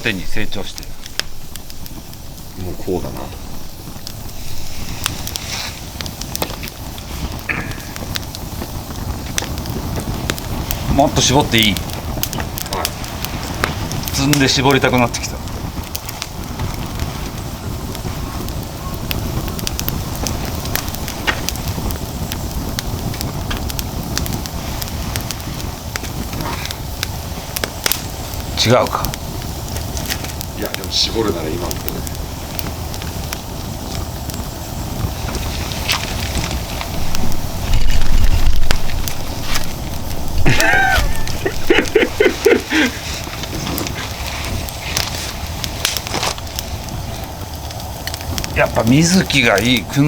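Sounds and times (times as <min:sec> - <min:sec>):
fire crackles and pops: 0:00.0 - 0:50.0
flames rushing: 0:00.0 - 0:50.0
low rumble of fire: 0:00.0 - 0:50.0.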